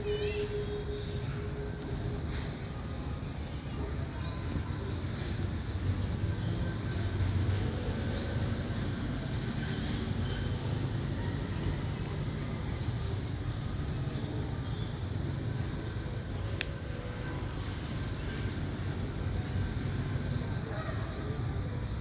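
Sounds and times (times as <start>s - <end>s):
high-pitched insect drone: 0.0s - 22.0s.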